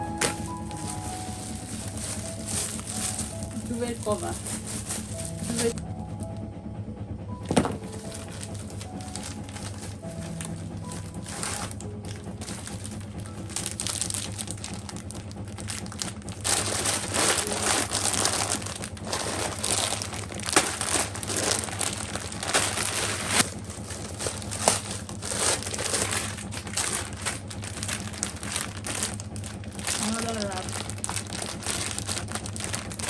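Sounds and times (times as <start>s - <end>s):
plastic packaging crinkling: 0.0s - 5.8s, 7.5s - 33.0s
steady low hum: 0.0s - 33.0s.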